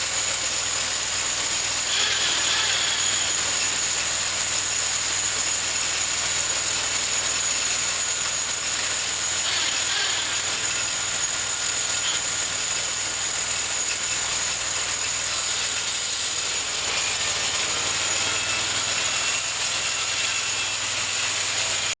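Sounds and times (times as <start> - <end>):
bandsaw mill whining: 0.0 - 22.0.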